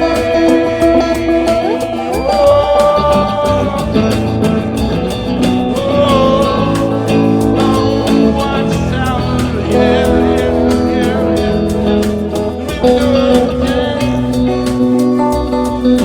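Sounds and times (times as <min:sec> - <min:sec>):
band music with guitar: 0:00.0 - 0:16.0
sliding melody line: 0:00.0 - 0:16.0.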